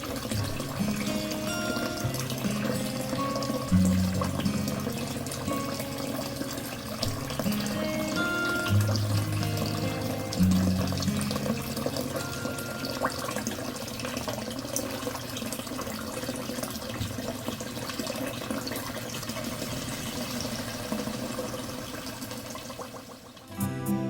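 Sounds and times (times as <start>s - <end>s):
running water: 0.0s - 23.6s.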